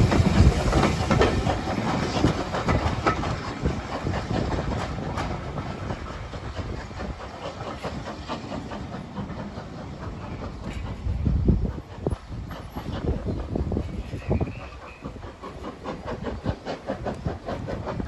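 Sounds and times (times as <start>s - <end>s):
train wheels clicking over rails: 0.0s - 18.0s
wind buffeting microphone: 0.0s - 18.0s.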